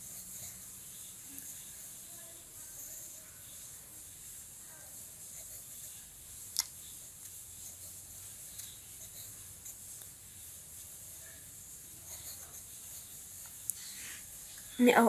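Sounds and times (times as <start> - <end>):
pencil scratching on paper: 0.0 - 14.4
steady hiss: 0.0 - 15.0.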